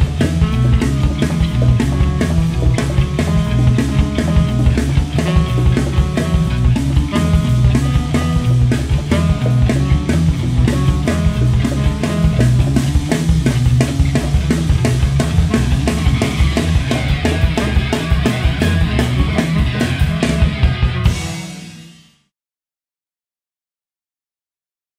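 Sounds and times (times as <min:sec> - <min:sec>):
drum kit playing rapid hits: 0:00.0 - 0:22.2
bass and guitar: 0:00.0 - 0:22.3.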